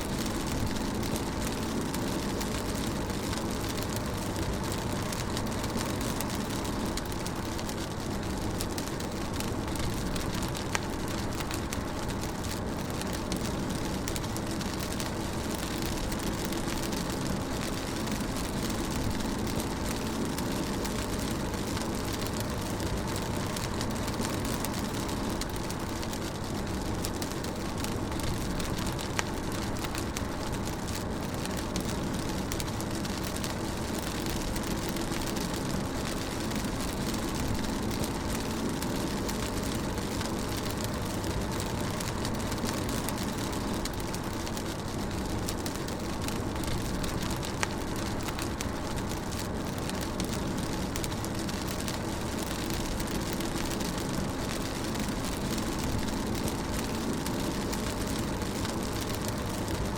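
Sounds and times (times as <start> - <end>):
rain on a car: 0.0 - 59.9.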